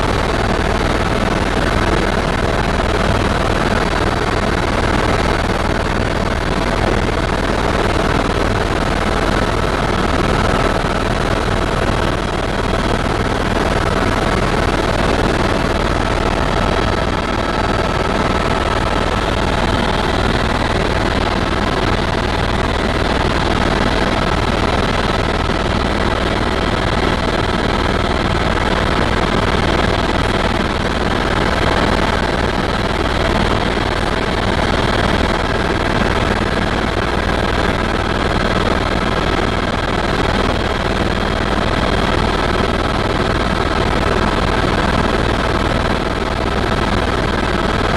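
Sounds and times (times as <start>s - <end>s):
constant whining tones: 0.0s - 47.9s
helicopter engine and rotor drone: 0.0s - 47.9s.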